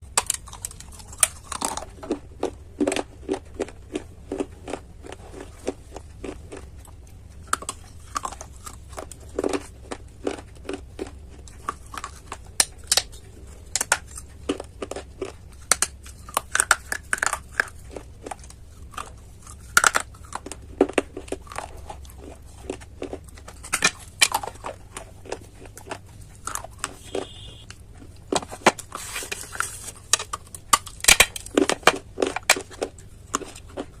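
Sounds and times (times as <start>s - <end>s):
low hum: 0.0s - 28.5s
chewing hard clay crunches: 0.0s - 34.0s.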